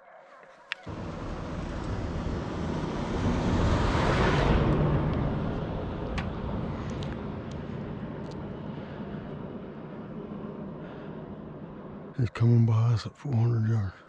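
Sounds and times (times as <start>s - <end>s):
truck engine rumble: 0.9s - 13.0s.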